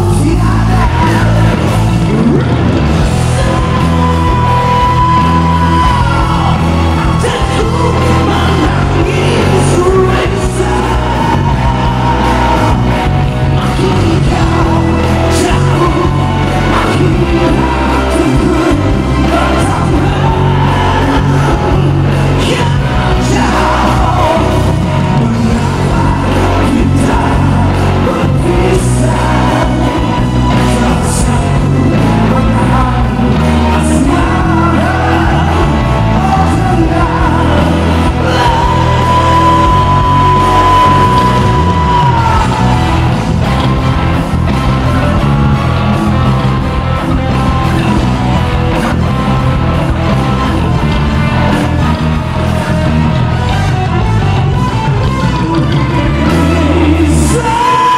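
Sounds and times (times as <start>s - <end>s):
man singing: 0.0s - 43.7s, 50.6s - 57.9s
live rock band playing: 0.0s - 57.9s.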